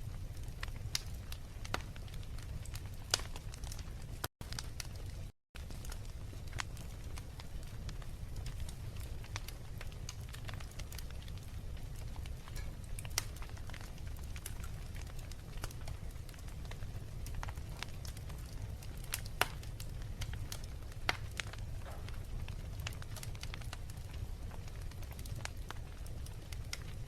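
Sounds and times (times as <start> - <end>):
fire low rumble: 0.0 - 27.0
wood fire crackling and popping: 0.0 - 27.0.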